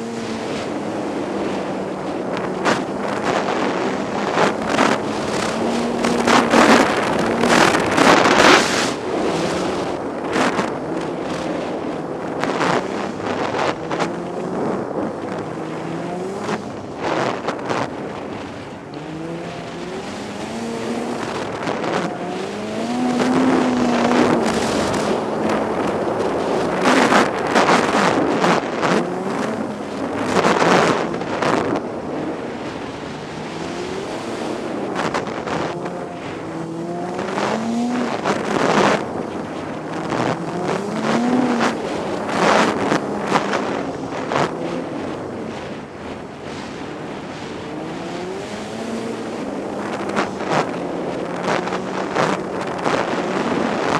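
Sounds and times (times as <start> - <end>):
snowmobile engine revving: 0.0 - 45.6, 46.4 - 53.9.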